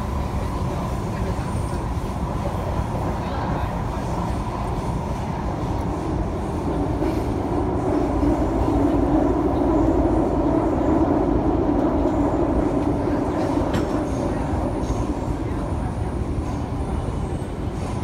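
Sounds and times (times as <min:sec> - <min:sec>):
train rumbling inside passenger car: 0:00.0 - 0:18.0.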